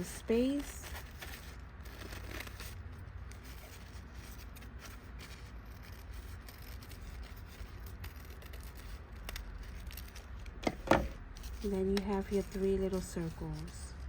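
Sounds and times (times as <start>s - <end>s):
low steady hum: 0.0s - 14.0s
scissors snipping paper: 0.3s - 10.6s, 11.3s - 14.0s
paper rustling: 0.3s - 14.0s.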